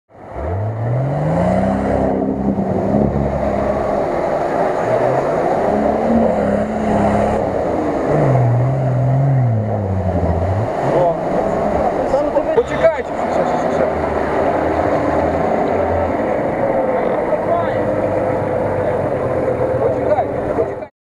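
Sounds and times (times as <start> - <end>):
off-road vehicle engine revving: 0.2 - 20.9
water and mud splashing: 0.3 - 20.8.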